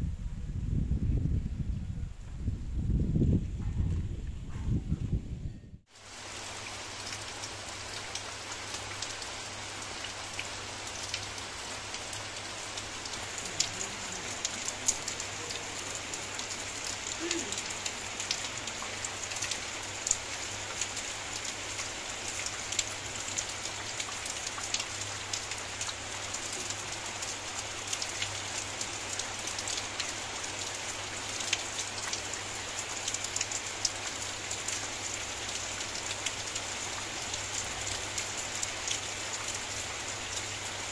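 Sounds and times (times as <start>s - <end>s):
close raindrops striking: 5.9s - 40.9s
rain on paving and foliage: 5.9s - 40.9s.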